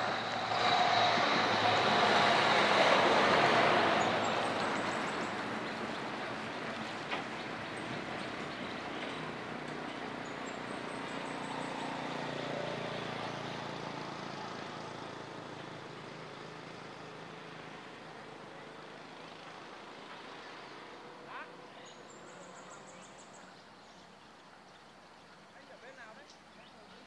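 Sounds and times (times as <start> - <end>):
truck diesel engine driving away: 0.0 - 23.5.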